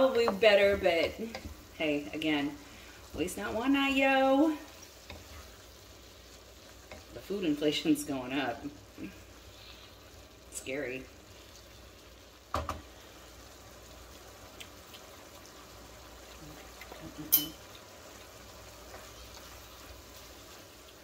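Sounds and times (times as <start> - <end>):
faint sizzle in skillet: 0.0 - 21.0.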